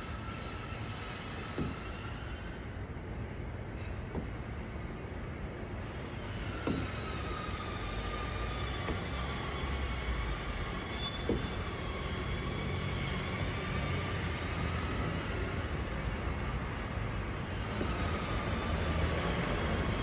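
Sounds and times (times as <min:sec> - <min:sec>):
low city background rumble: 0:00.0 - 0:20.0.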